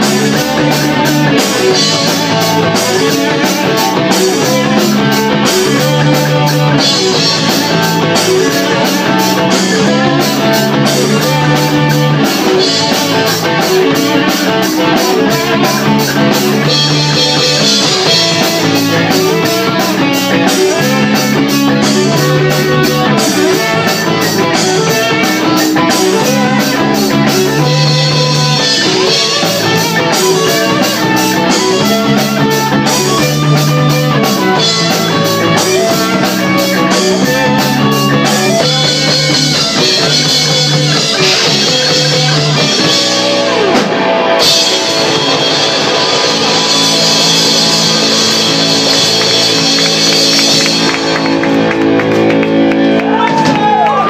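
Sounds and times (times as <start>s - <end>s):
drum kit beat: 0.0s - 54.0s
electric guitar: 0.0s - 54.0s.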